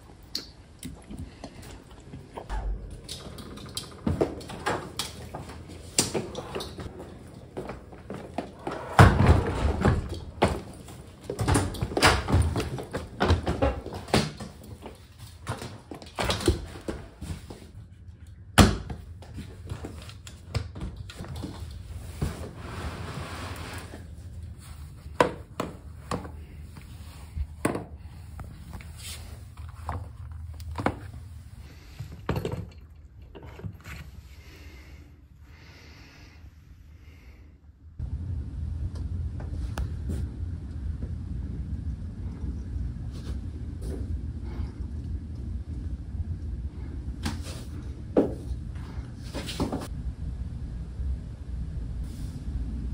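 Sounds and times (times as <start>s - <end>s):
low room hum: 0.0s - 52.9s.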